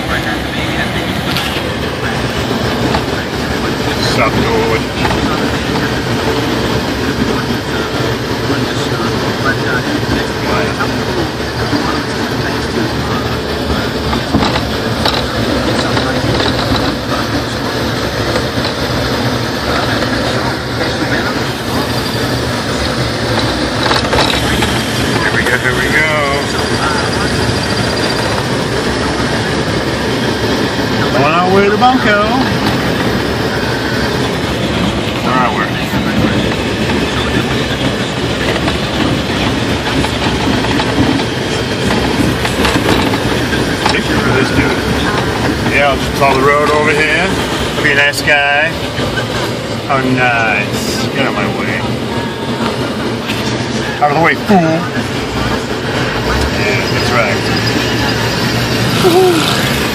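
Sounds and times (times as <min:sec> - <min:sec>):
engine and tyre rumble: 0:00.0 - 0:59.9
vehicle driving on snow: 0:00.0 - 0:59.9.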